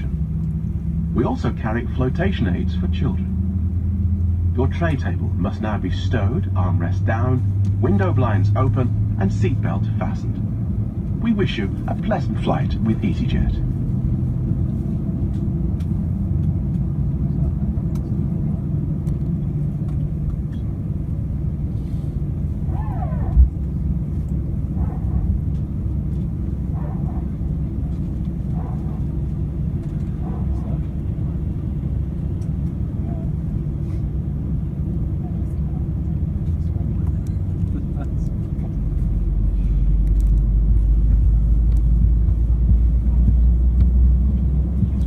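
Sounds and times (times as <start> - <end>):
airplane cabin rumble: 0.0 - 45.0.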